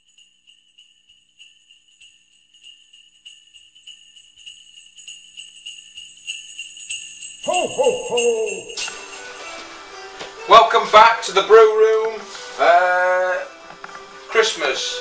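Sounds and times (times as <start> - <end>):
sleigh bells jingling: 0.0 - 15.0.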